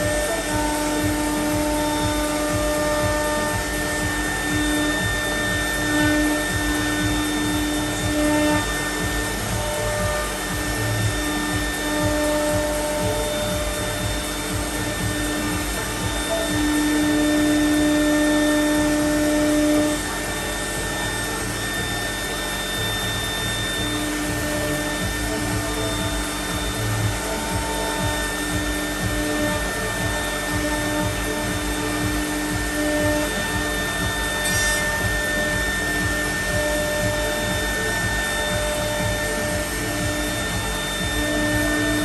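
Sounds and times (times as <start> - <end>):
dust extraction running: 0.0 - 42.0
high whine: 0.0 - 42.0
router spindle milling: 0.0 - 42.0.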